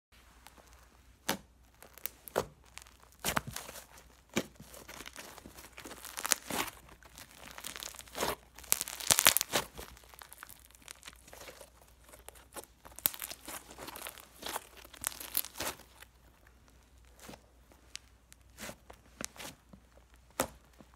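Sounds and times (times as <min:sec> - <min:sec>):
sticky slime crackling: 0:00.4 - 0:20.9.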